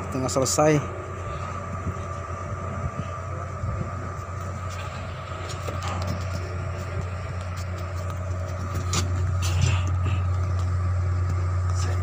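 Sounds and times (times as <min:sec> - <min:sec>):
high whine: 0:00.0 - 0:12.0
low machinery drone: 0:00.0 - 0:12.0.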